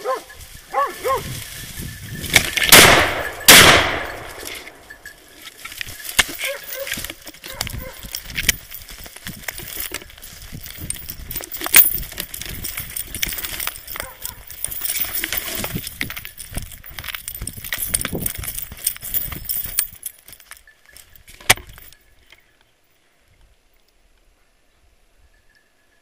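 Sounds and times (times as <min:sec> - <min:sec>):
brush rustling and scraping: 0:00.0 - 0:03.5, 0:04.1 - 0:22.4.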